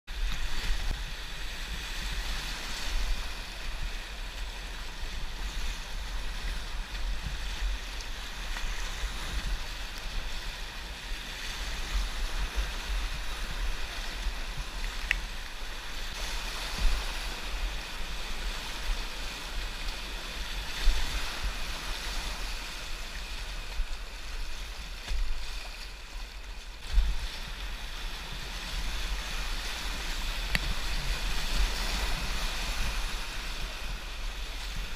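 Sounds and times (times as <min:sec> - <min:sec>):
wind rumbling on microphone: 0:00.1 - 0:34.9.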